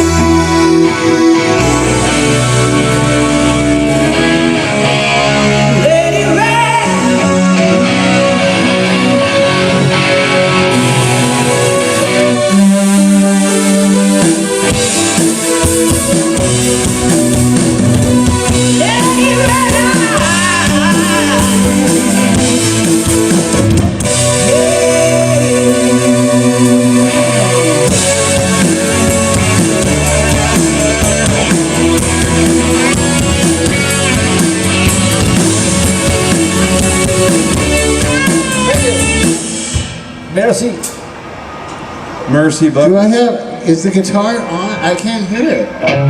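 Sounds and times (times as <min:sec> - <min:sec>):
drum kit: 0:00.0 - 0:41.2
electric guitar: 0:00.0 - 0:42.3, 0:43.3 - 0:46.0
keyboard holding chords: 0:00.0 - 0:46.0.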